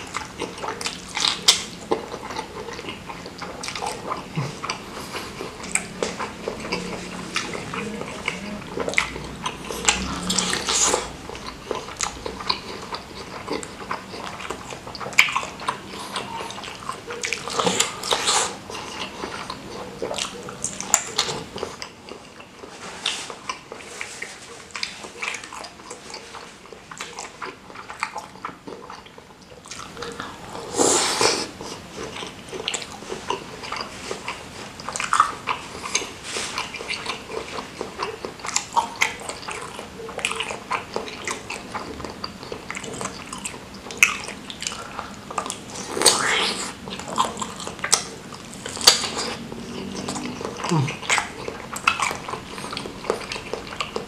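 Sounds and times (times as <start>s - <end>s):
person biting and chewing: 0.1s - 54.0s.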